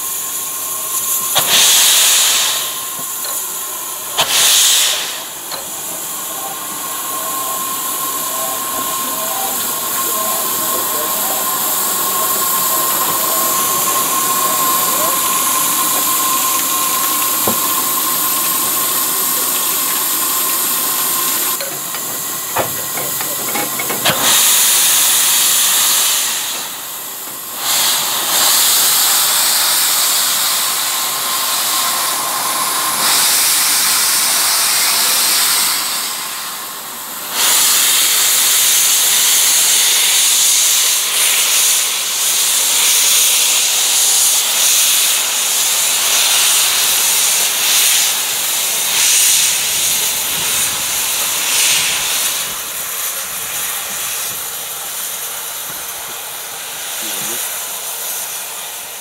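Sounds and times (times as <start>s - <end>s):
steam hissing loudly: 0.0s - 59.0s.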